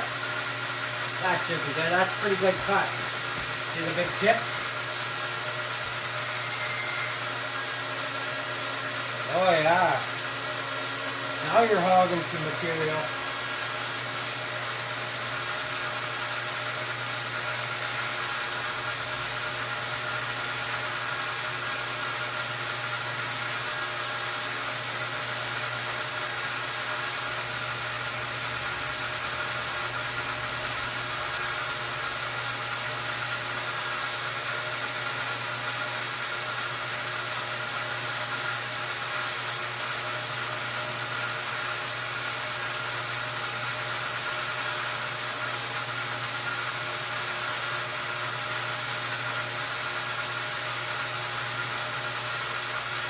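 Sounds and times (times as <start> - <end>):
lathe tool cutting metal: 0.0 - 53.0
metal lathe motor hum: 0.0 - 53.0.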